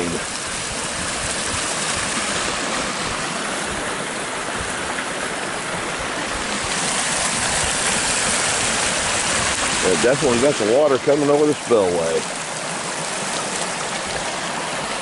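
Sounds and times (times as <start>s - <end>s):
water rushing over spillway: 0.0s - 15.0s.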